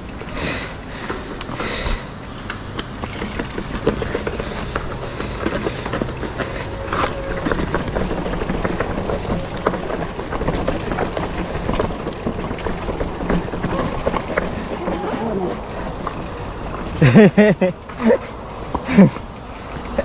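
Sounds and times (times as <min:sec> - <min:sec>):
bike chain and frame rattling: 0:00.0 - 0:20.0
bike tyres rumbling: 0:00.0 - 0:20.0.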